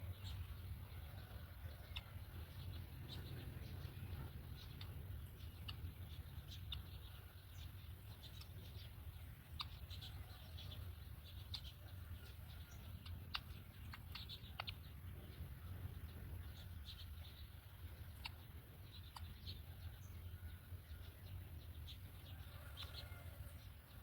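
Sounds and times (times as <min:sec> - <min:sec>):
faint bird chirps: 0:00.0 - 0:24.0
low hum: 0:00.0 - 0:24.0.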